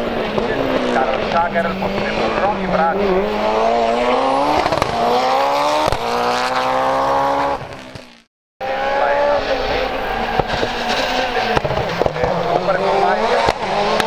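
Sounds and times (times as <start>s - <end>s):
race car engine accelerating: 0.0s - 14.0s
race car engine at high revs: 0.0s - 14.0s.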